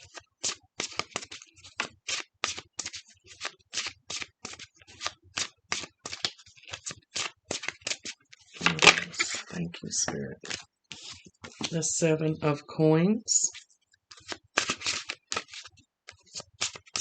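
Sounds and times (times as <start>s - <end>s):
cards being shuffled: 0.0s - 11.8s, 13.5s - 17.0s.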